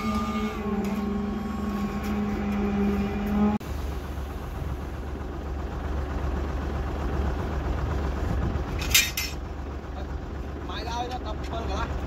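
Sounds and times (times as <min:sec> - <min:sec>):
concrete vibrator humming: 0:00.0 - 0:11.1
low engine rumble: 0:00.0 - 0:12.0.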